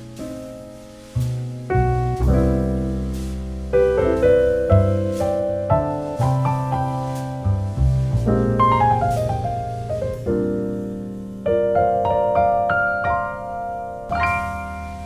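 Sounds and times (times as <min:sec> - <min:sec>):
mellow piano music: 0:00.0 - 0:15.0.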